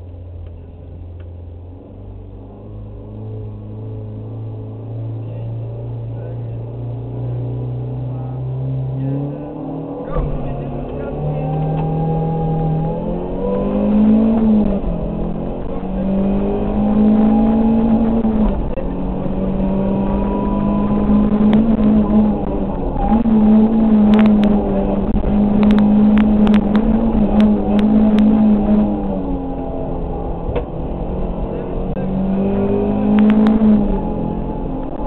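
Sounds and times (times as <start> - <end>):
rally car engine revving high: 0.0 - 35.0.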